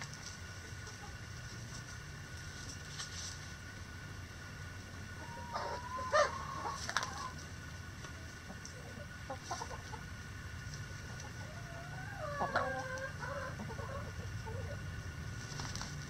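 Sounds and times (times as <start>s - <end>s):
chickens clucking: 0.0s - 3.8s, 4.4s - 16.0s
steady low hum: 0.0s - 16.0s.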